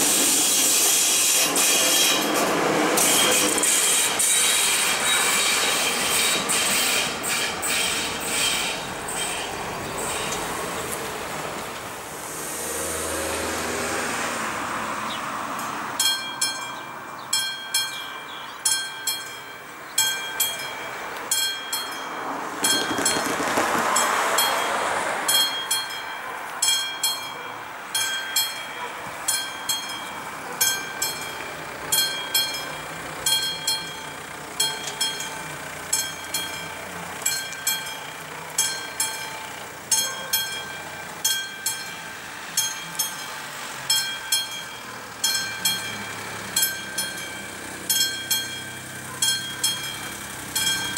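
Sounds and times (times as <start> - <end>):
level crossing warning bell: 5.0 - 10.9, 15.4 - 50.9.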